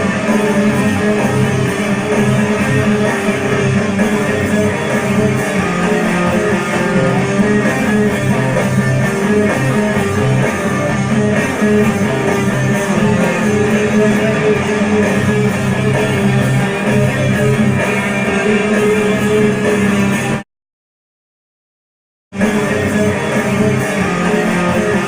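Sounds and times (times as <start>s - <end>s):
electric guitar playing rock riffs: 0.0s - 20.4s, 22.4s - 25.0s.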